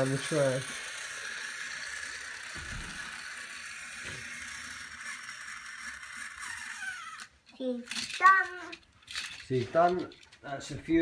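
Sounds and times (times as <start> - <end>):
toy train motor whir: 0.0 - 11.0.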